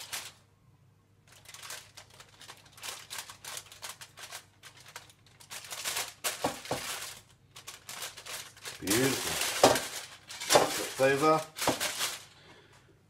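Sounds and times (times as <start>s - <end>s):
tinfoil crinkling and rustling: 0.0s - 0.4s, 1.2s - 12.7s.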